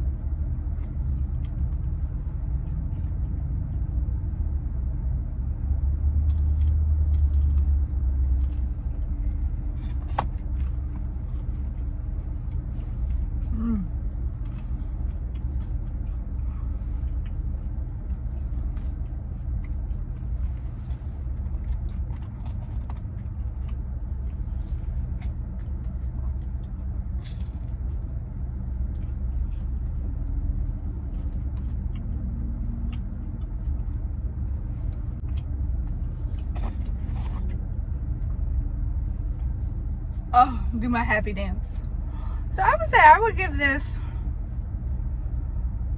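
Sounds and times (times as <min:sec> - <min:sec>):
steady low engine rumble: 0:00.0 - 0:45.9.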